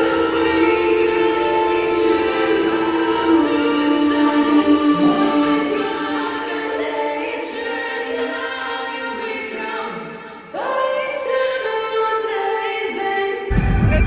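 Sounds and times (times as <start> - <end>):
a cappella vocal harmonies: 0.0 - 14.0.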